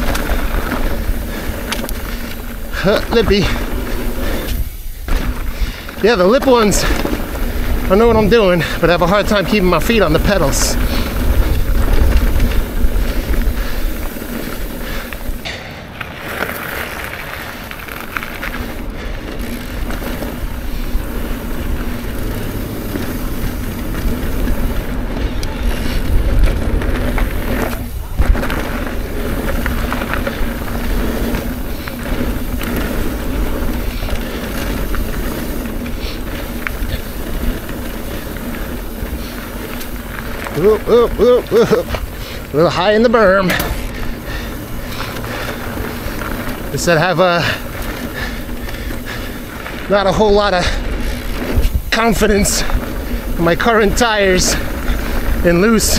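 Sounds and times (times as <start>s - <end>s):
bike rattling over dirt trail: 0.0s - 55.9s
wind rumbling on microphone: 0.0s - 55.9s.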